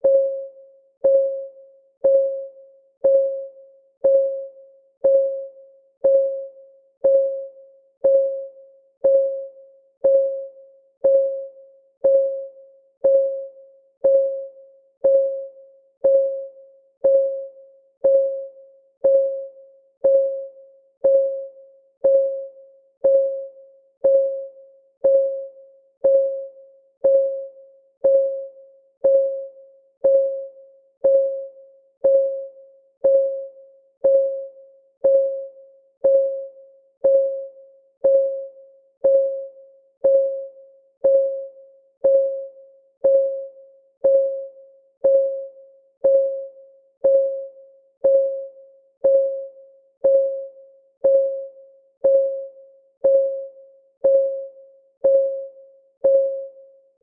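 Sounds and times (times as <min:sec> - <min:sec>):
countdown timer ticking: 0:01.0 - 0:56.6.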